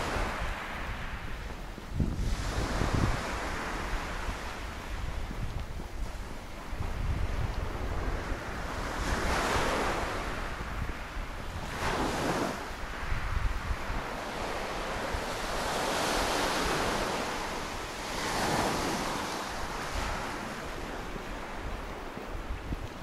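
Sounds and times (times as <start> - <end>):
sea waves breaking on beach: 0.0 - 23.0
wind rumbling on microphone: 0.0 - 23.0.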